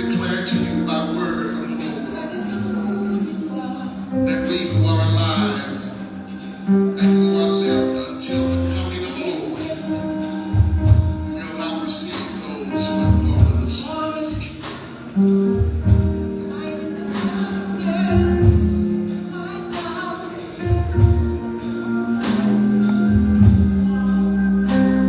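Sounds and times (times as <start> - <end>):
held low chords: 0.0 - 12.0, 12.8 - 14.6, 15.2 - 25.0
gospel singing: 0.0 - 25.0
steady drum beat: 4.2 - 25.0.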